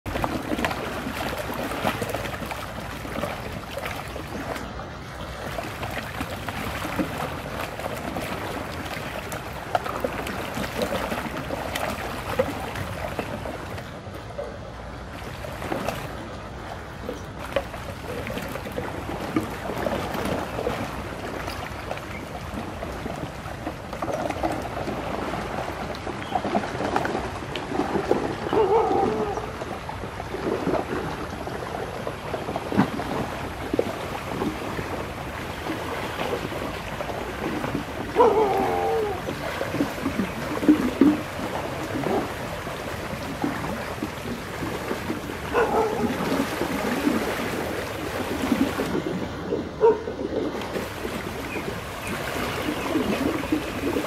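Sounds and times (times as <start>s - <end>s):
floodwater swirling and rushing: 0.0s - 54.0s.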